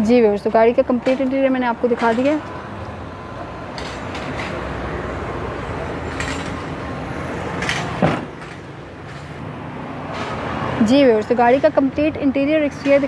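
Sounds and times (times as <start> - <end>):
outdoor car lot background noise: 0.0 - 13.0.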